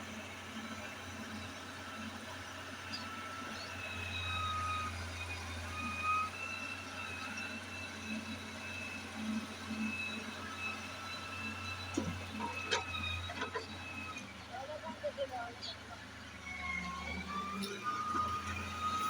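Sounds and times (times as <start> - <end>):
excavator engine running: 0.1 - 19.0.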